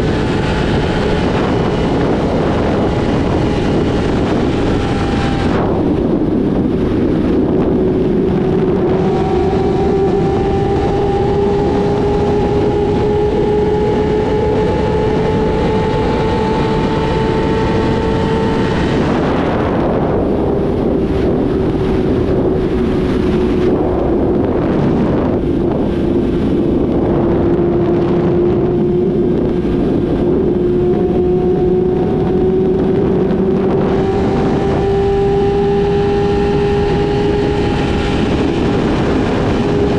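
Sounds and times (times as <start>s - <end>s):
motorcycle engine at speed: 0.0s - 39.9s
wind rush on microphone: 0.0s - 39.9s.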